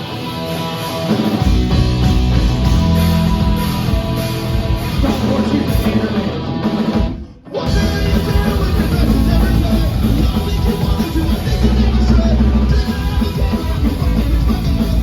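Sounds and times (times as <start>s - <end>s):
live punk rock band playing: 0.0s - 15.0s.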